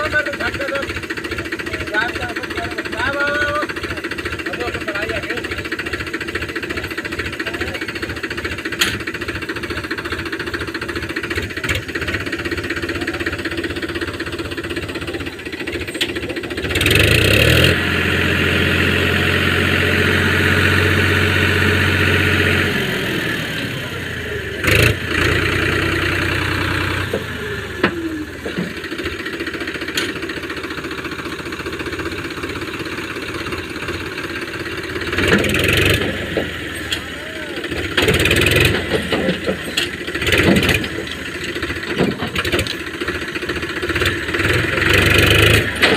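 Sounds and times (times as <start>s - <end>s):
tractor diesel engine chugging: 0.0s - 45.9s.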